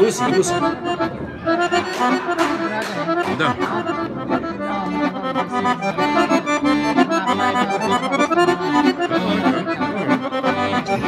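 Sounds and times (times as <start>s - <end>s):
accordion folk melody: 0.0s - 11.0s.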